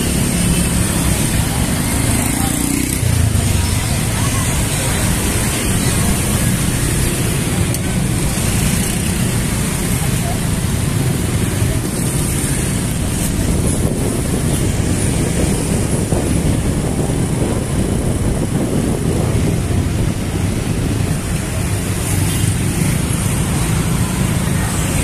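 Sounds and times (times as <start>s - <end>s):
scooter traffic: 0.0s - 25.0s.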